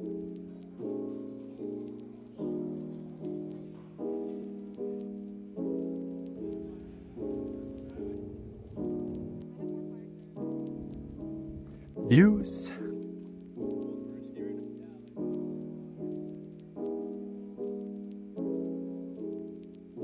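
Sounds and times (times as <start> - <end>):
gentle piano piece: 0.0 - 20.0.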